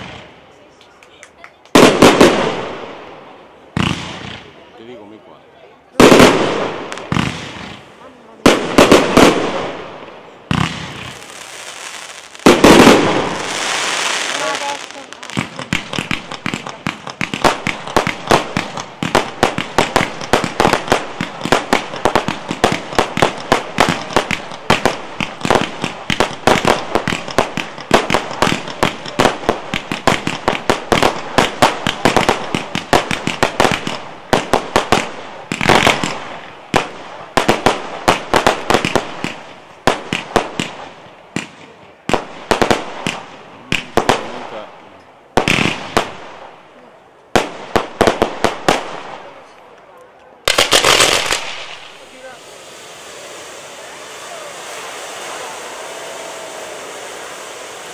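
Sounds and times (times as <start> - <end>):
fireworks bangs: 0.0 - 5.0, 5.9 - 57.9.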